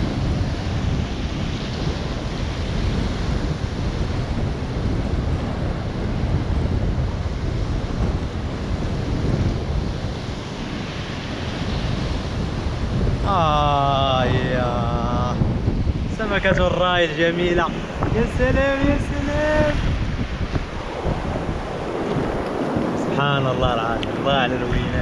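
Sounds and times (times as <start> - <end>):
surf breaking over rocks: 0.0 - 25.0
wind buffeting microphone: 0.0 - 25.0.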